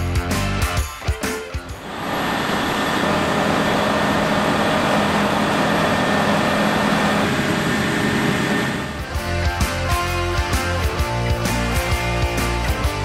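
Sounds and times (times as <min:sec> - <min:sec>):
combine harvester running: 0:01.6 - 0:12.8.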